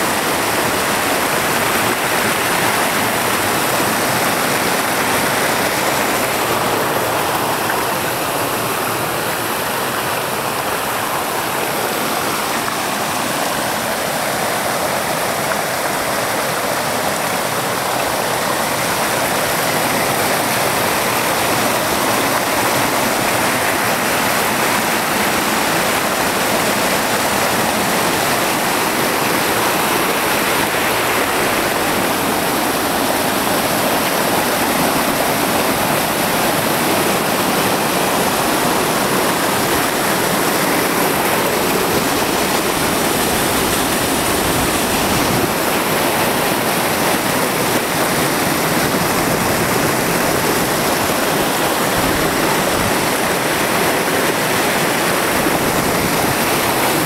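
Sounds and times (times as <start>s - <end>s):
stream rushing over boulders: 0.0s - 57.0s.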